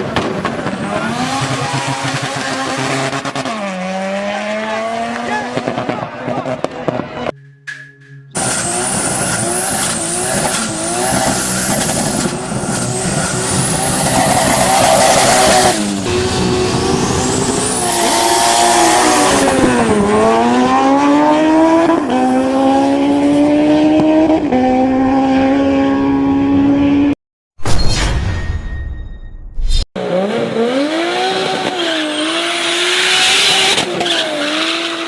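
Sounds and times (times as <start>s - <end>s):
race car engine revving: 0.4s - 7.3s, 8.3s - 27.1s, 30.0s - 35.0s.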